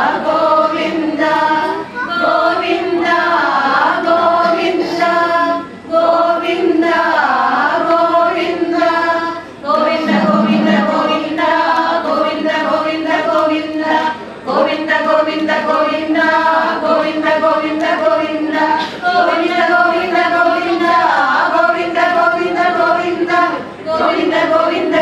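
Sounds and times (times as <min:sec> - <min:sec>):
women singing in unison: 0:00.0 - 0:25.0.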